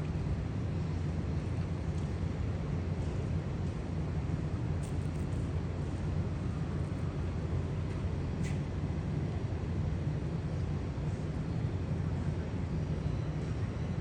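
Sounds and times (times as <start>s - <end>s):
city street rumble: 0.0s - 14.0s.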